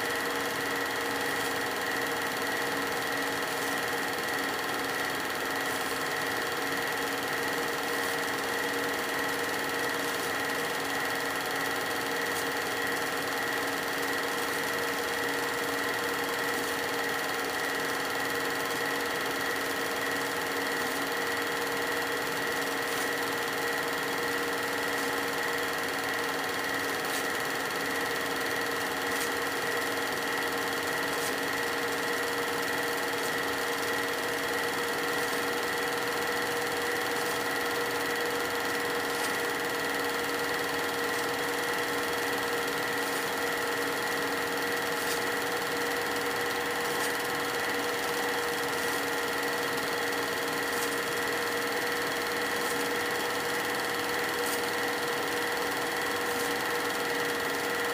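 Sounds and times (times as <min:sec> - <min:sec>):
film projector whirring: 0:00.0 - 0:57.9.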